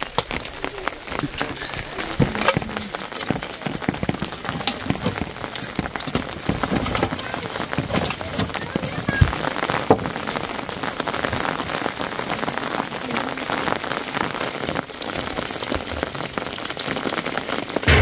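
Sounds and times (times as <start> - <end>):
rain and hail pattering: 0.0 - 18.0.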